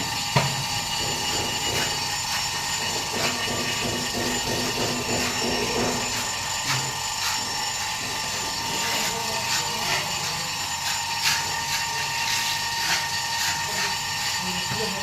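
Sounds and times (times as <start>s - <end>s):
vacuum pump running: 0.0s - 15.0s.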